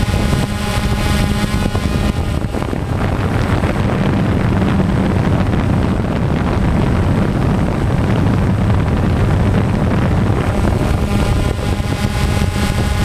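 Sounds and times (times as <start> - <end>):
drone propellers whirring: 0.0 - 13.0
wind on microphone: 0.0 - 13.0.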